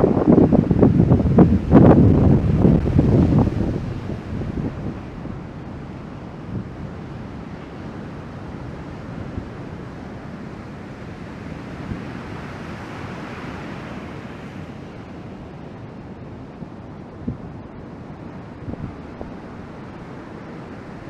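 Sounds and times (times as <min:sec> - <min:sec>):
ocean surf washing: 0:00.0 - 0:21.0
wind rumbling on microphone: 0:00.0 - 0:21.0.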